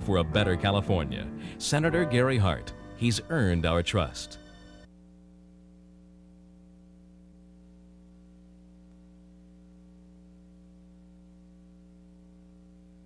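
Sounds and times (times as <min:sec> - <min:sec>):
faint electrical hum: 0:00.1 - 0:13.0.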